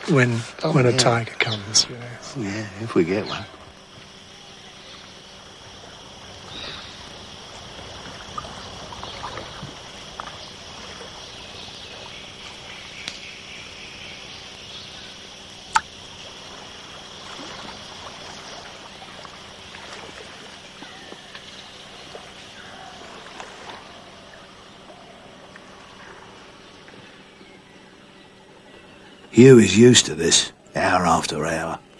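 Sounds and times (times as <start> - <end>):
faint chirps: 0.0 - 31.9
high-pitched insect chorus: 0.0 - 31.9.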